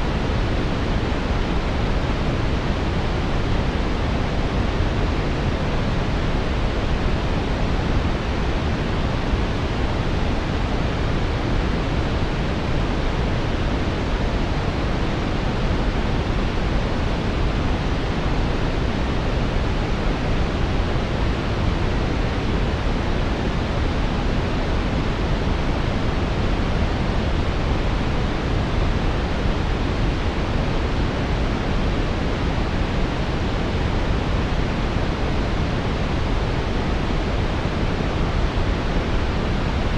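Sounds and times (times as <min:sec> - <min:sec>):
brown noise rushing hiss: 0:00.0 - 0:39.9.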